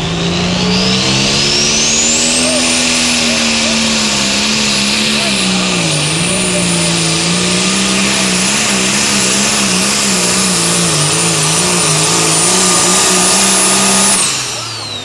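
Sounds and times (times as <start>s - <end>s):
diesel engine running flat out: 0.0s - 15.0s
high turbo whine: 0.0s - 15.0s.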